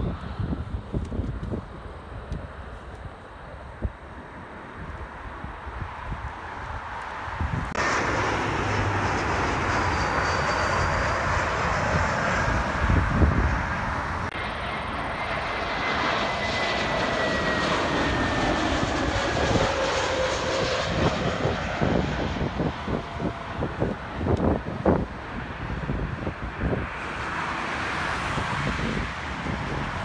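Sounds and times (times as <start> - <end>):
jet engine roar with whine: 0.0 - 30.0
wind buffeting microphone: 0.0 - 30.0.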